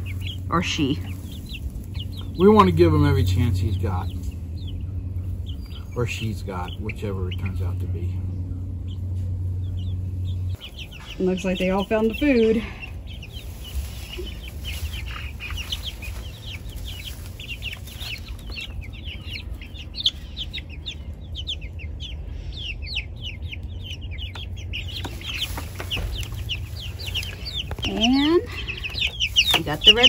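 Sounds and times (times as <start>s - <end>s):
chicks peeping: 0.0s - 30.0s
steady low rumble: 0.0s - 30.0s.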